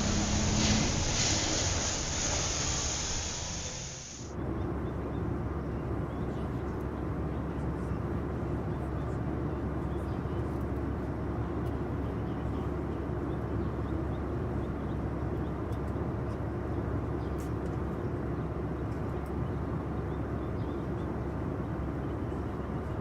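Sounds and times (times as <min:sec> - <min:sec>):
low rumbling background noise: 0:00.0 - 0:23.0.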